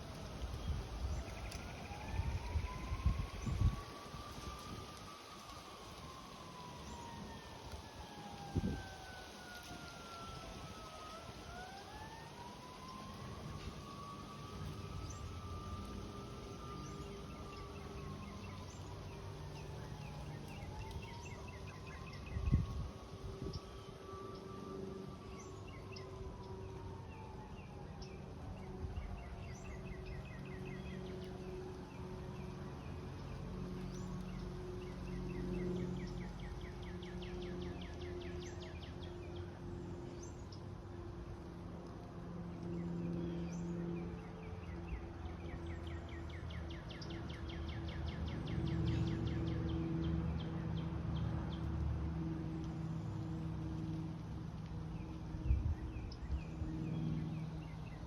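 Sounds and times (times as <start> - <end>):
distant siren wailing: 0.0 - 58.0.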